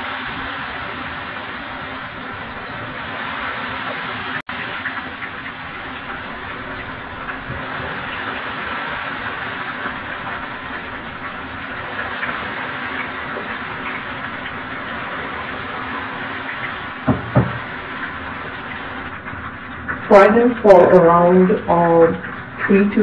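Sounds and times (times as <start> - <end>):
chicken sizzling in hot oil: 0.0 - 20.6.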